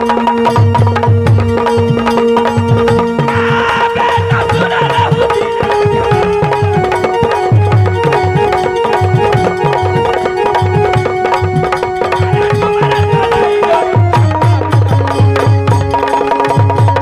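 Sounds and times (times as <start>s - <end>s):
fast driving drum rhythm: 0.0s - 17.0s
held melody line: 0.0s - 17.0s.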